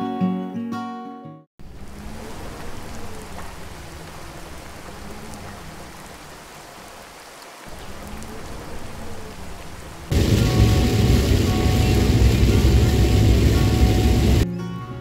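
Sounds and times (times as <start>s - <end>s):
steady rain patter: 1.6s - 14.4s.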